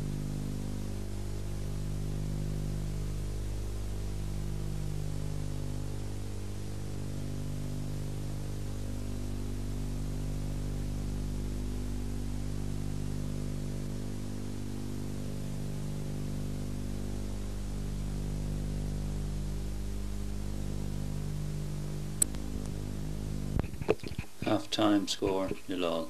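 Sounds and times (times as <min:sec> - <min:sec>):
constant tape hiss: 0:00.0 - 0:26.0
electrical hum: 0:00.0 - 0:26.0.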